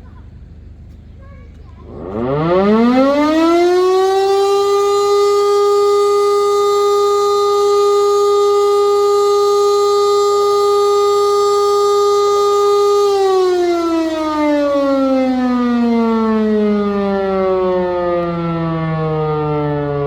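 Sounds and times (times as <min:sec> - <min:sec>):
electric motor siren: 0:01.9 - 0:20.0.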